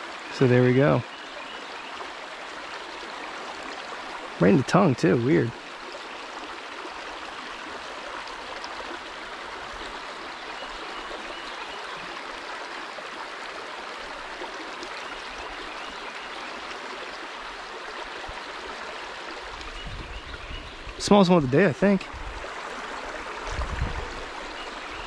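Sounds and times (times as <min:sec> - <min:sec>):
creek water over rocks: 0:00.0 - 0:25.0.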